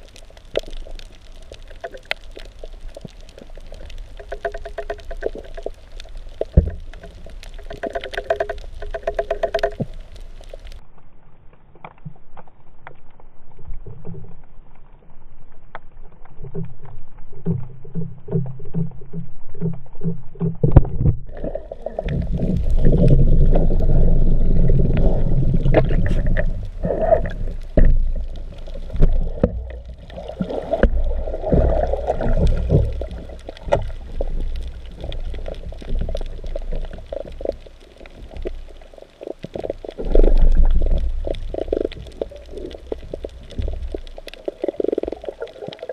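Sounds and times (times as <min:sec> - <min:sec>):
soft low underwater pulses: 0:00.0 - 0:45.9
underwater rumbling and sloshing: 0:00.0 - 0:45.9.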